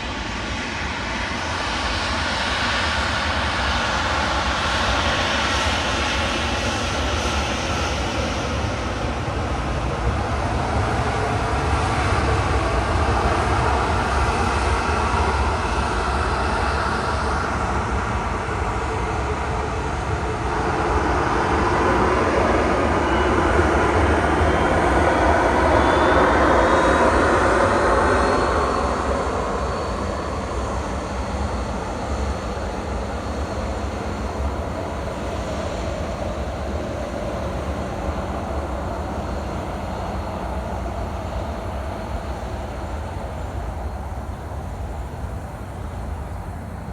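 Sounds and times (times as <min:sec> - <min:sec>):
jet airliner engine noise: 0:00.0 - 0:46.9.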